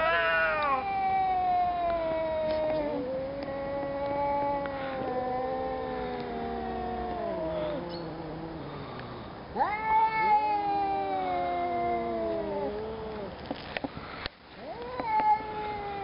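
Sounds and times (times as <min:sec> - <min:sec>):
cats yowling: 0:00.0 - 0:08.8, 0:09.6 - 0:13.4, 0:14.6 - 0:16.0.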